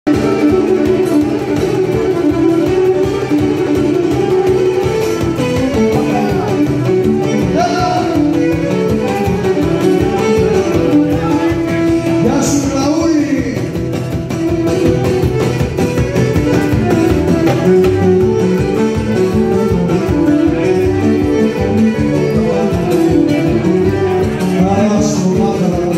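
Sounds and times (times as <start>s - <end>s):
bowed fiddle melody: 0.1s - 25.9s
lutes strumming: 0.1s - 25.9s.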